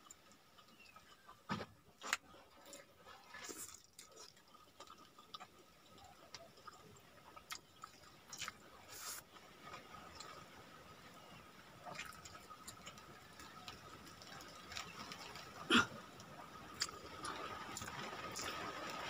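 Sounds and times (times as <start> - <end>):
close chewing and mouth sounds: 0.0 - 19.0.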